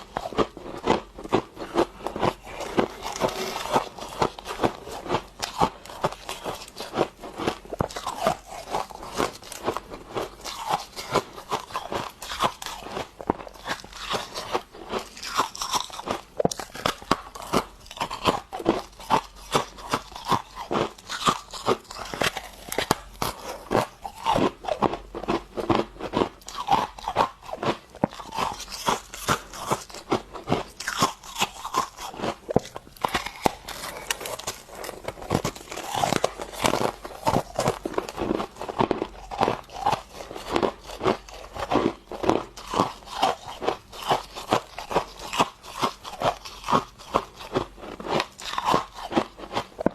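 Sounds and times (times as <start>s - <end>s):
frost being chewed crunching: 0.0s - 49.9s.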